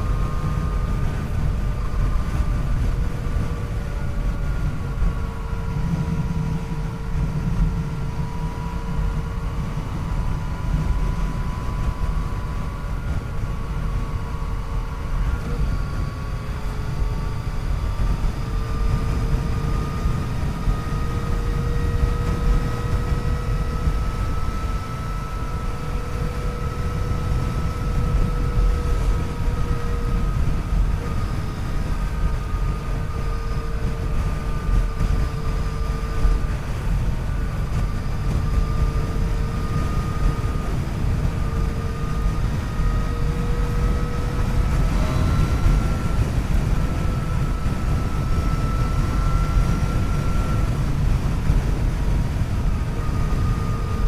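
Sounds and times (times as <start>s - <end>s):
low wind rumble: 0.0s - 54.0s.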